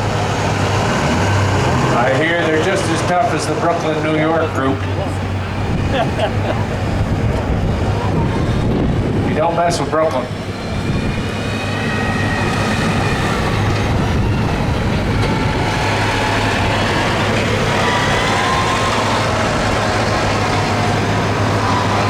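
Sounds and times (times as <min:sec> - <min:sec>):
lawn tractor engine droning: 0:00.0 - 0:22.0.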